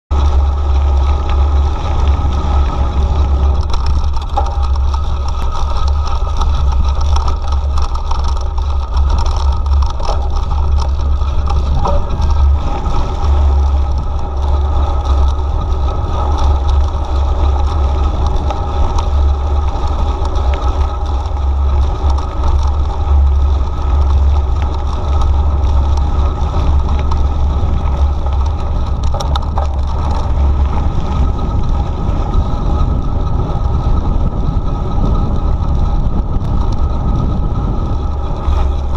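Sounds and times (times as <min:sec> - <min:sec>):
wind rumble on microphone: 0:00.0 - 0:38.9
bike clicks and rattles: 0:00.1 - 0:38.9
tyres rolling on gravel: 0:00.1 - 0:38.9.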